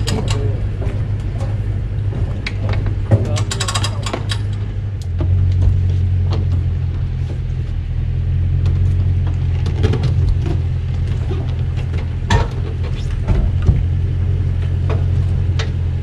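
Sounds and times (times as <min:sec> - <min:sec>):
trailer knocks and clanks: 0:00.0 - 0:07.7, 0:08.6 - 0:15.9
truck engine idling: 0:00.0 - 0:16.0.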